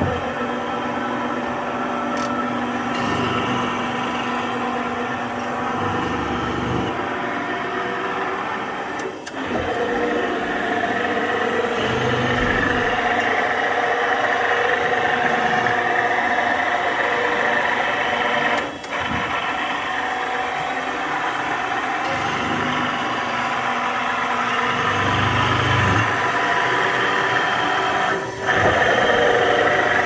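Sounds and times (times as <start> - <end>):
knife grinder humming and whining: 0.0 - 30.0.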